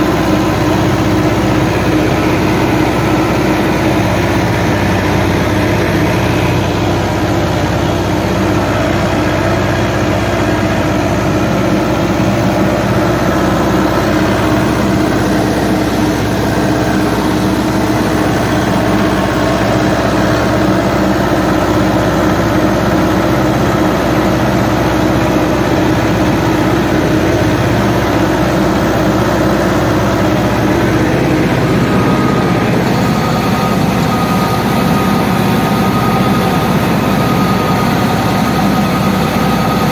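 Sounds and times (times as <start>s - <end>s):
high steady whine: 0.0s - 39.9s
tractor engine running: 0.0s - 39.9s.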